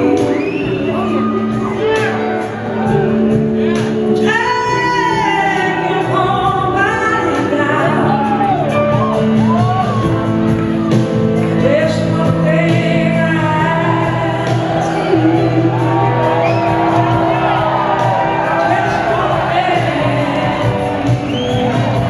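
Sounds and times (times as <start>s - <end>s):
electric guitar: 0.0s - 22.0s
live band music: 0.0s - 22.0s.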